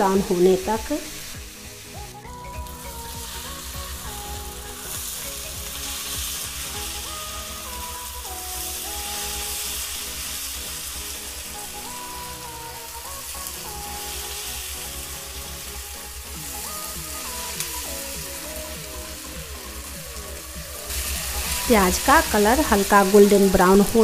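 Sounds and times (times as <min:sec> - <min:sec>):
background melody: 0:00.0 - 0:24.0
onions sizzling in oil: 0:00.0 - 0:24.0.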